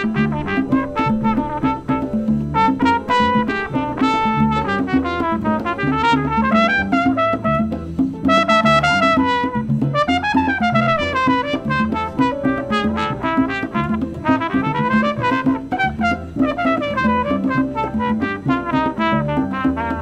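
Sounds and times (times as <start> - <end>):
brass horn lead melody: 0.0 - 20.0
conga drums: 0.0 - 20.0
keyboard: 0.0 - 20.0
upright bass line: 0.0 - 20.0.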